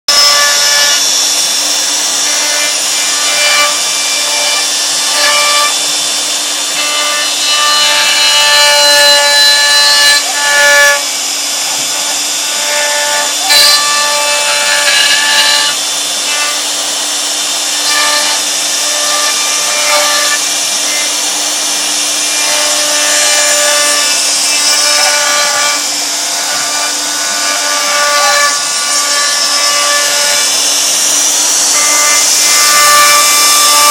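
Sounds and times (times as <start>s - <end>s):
router bit cutting wood hiss: 0.1s - 33.9s
router spindle hum: 0.1s - 33.9s.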